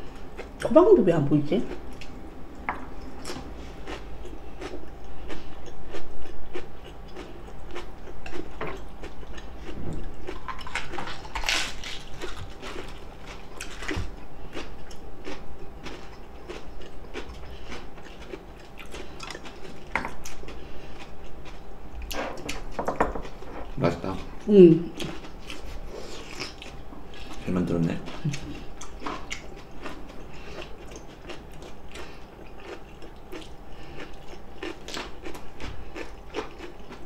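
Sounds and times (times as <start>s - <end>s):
people chewing and crunching food: 0.0s - 37.0s.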